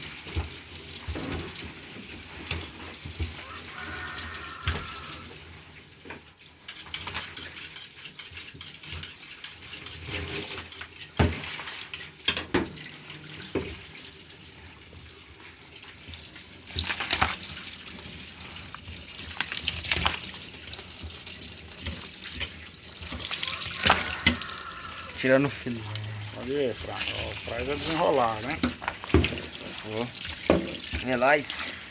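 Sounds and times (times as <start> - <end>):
water running from tap: 0.0 - 31.9.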